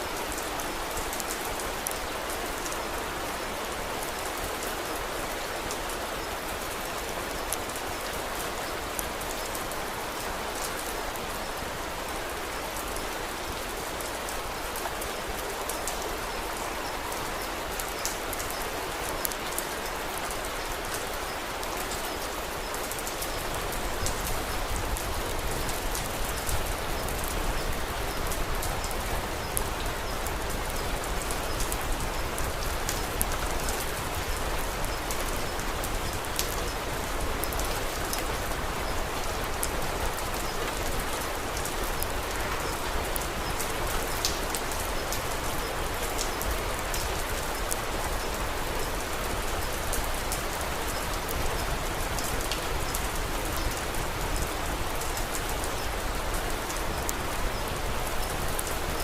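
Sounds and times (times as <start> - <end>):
crackles and drips: 0.0 - 59.0
steady rain falling: 0.0 - 59.0.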